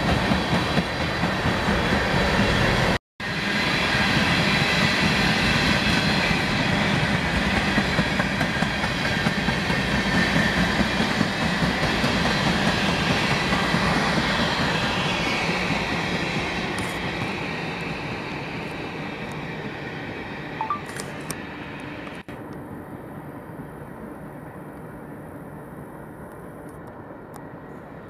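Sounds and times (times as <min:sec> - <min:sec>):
freight train rolling: 0:00.0 - 0:28.0.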